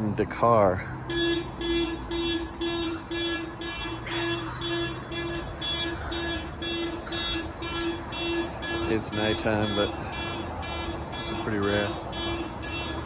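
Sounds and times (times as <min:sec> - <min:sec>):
electronic alarm beeping: 0:01.1 - 0:13.0.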